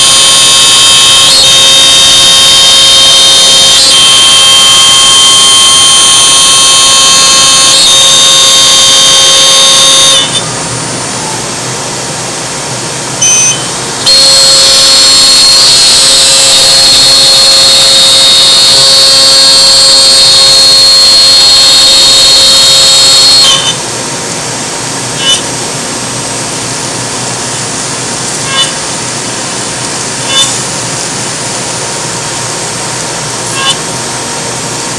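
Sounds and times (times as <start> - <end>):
router spindle whine: 0.0 - 34.9.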